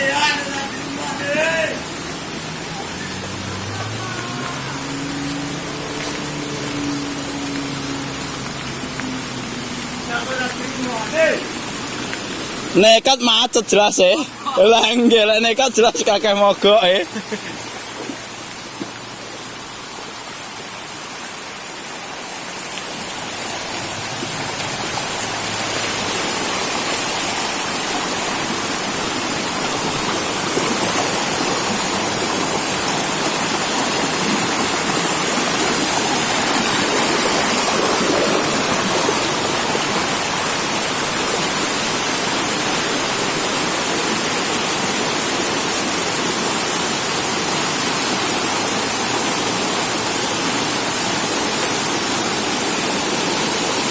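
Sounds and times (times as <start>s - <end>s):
heavy rain: 0.0s - 53.9s
running water: 0.0s - 53.9s.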